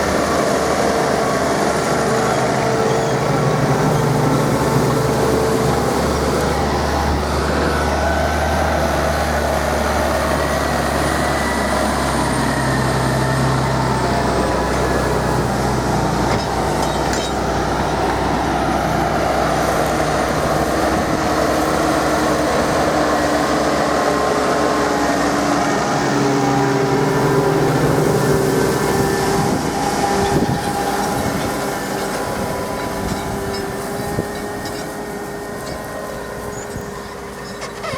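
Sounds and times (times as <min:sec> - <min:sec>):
tractor engines humming: 0:00.0 - 0:37.9.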